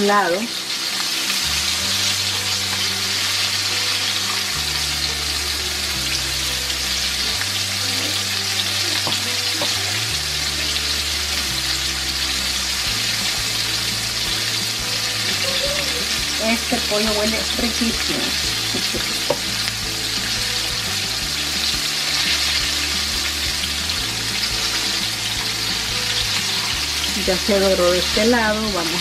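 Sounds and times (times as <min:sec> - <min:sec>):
chicken frying in hot oil: 0:00.0 - 0:29.0.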